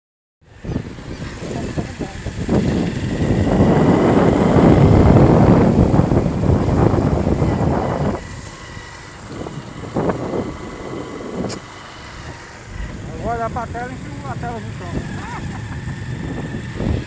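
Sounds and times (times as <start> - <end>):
wind buffeting microphone: 0.4 - 17.0.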